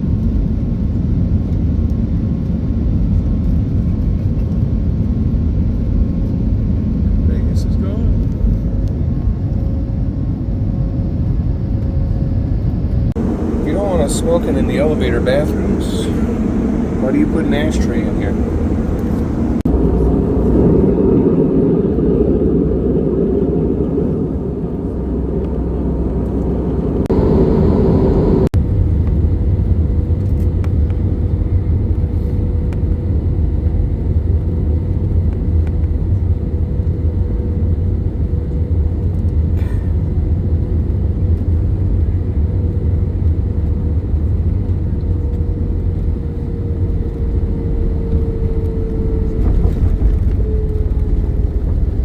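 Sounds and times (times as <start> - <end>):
airliner cabin rumble: 0.0 - 52.0
engine hum: 0.0 - 52.0.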